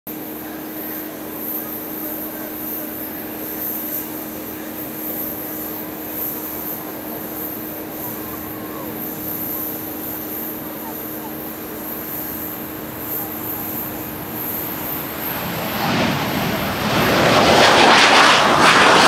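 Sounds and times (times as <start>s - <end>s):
jet engines running steadily: 0.1s - 19.0s.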